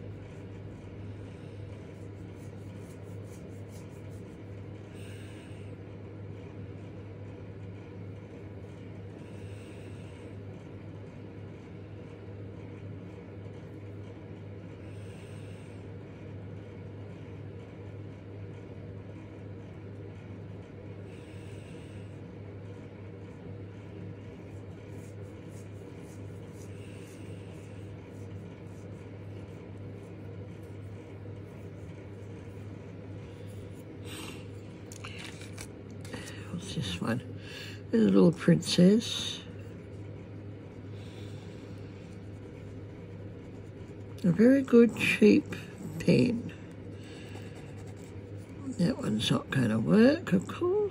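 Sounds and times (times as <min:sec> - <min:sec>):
low room hum: 0:00.0 - 0:50.9.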